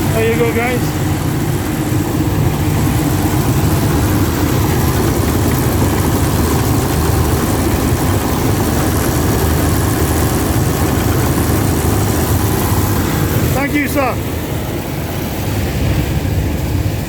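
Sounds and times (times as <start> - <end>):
rice milling machine drone: 0.0 - 17.0.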